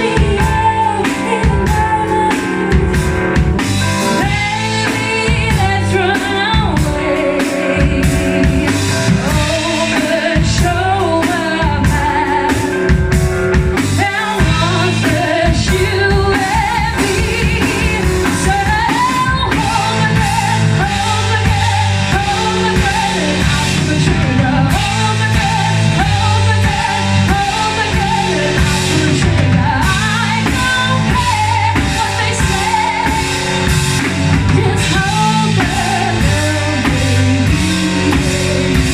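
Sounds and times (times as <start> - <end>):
live band playing: 0.0 - 38.9
woman singing lead: 0.0 - 38.9.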